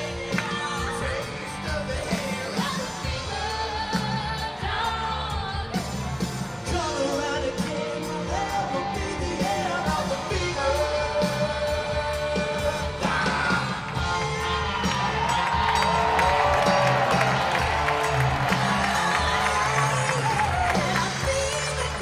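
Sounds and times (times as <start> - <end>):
voices singing together: 0.0 - 6.0, 6.6 - 15.3, 17.9 - 22.0
drum kit: 0.0 - 22.0
guitars: 0.0 - 22.0.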